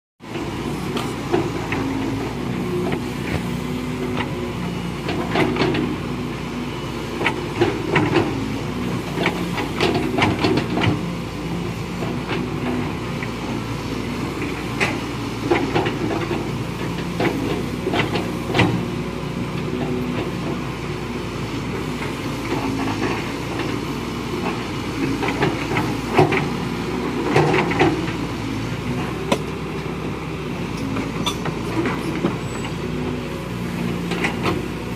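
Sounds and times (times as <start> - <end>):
excavator diesel engines: 0.2 - 34.9.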